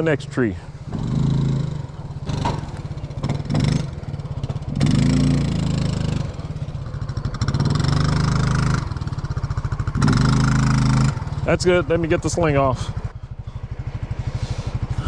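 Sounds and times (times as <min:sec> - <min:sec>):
utility vehicle engine revving: 0:00.0 - 0:15.0.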